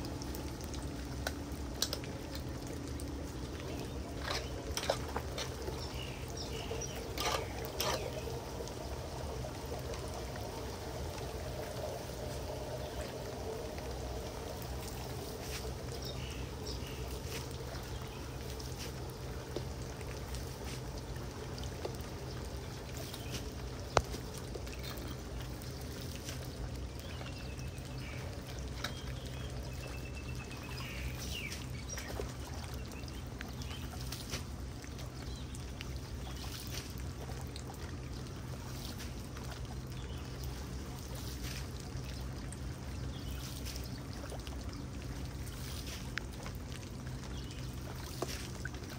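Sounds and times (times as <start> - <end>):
water pouring into a drain: 0.0 - 48.9.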